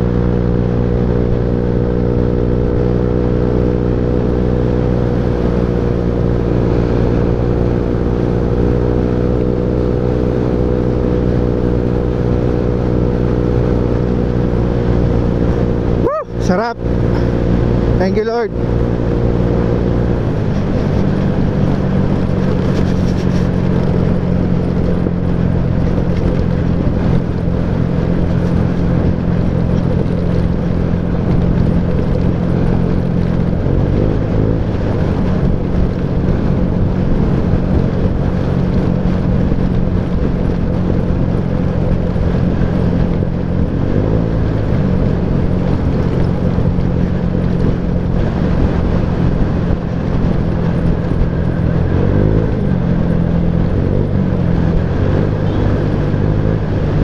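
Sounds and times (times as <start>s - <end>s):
motorcycle engine cruising: 0.0s - 57.0s
road and wind noise: 0.0s - 57.0s.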